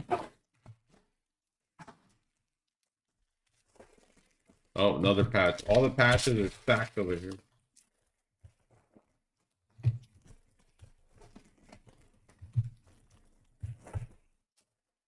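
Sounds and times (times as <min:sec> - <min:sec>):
cards and wrappers rustling: 0:01.9 - 0:14.7.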